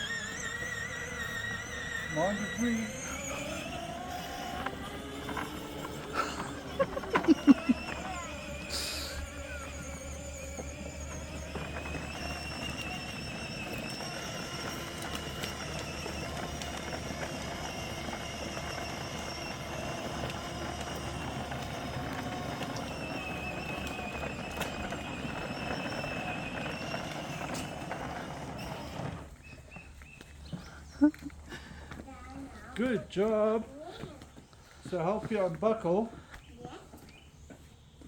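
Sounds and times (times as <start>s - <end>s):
electric toy tractor motor whine: 0.0s - 32.0s.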